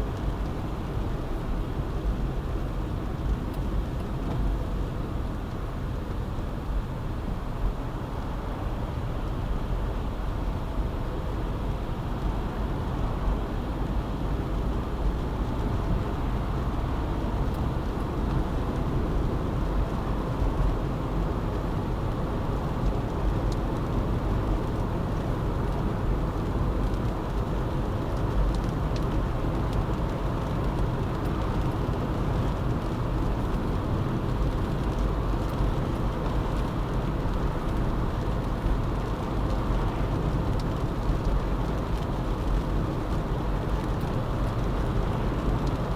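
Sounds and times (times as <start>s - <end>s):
car road noise: 0.0s - 45.9s.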